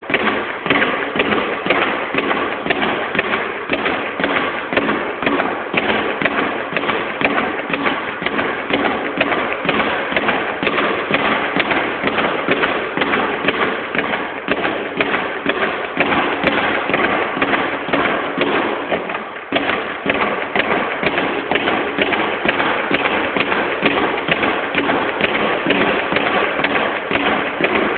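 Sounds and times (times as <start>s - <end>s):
speed bag being punched: 0.0s - 27.9s.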